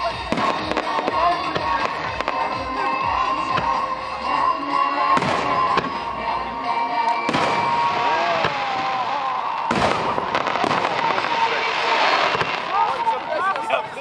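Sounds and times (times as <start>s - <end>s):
fireworks bangs: 0.0s - 14.0s
music through loudspeakers: 0.0s - 14.0s.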